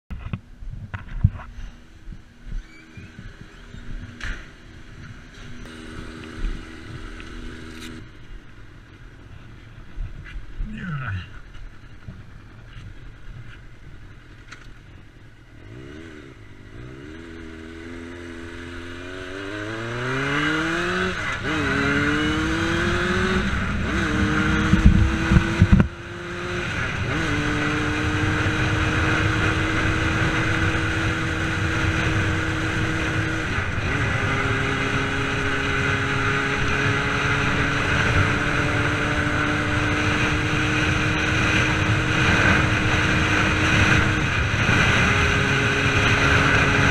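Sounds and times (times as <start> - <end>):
wind rushing over microphone: 0.1 - 8.2, 15.6 - 46.9
motorcycle engine accelerating: 0.2 - 9.2, 11.5 - 46.9.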